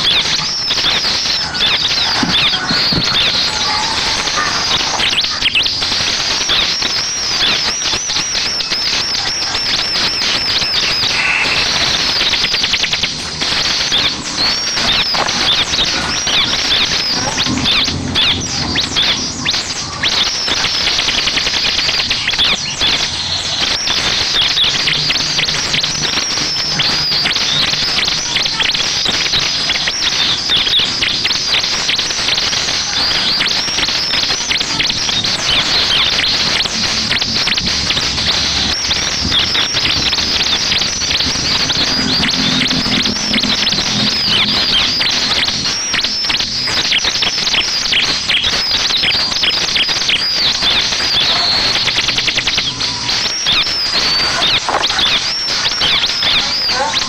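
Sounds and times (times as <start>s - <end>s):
bird chattering chirps and trills: 0.0s - 57.0s.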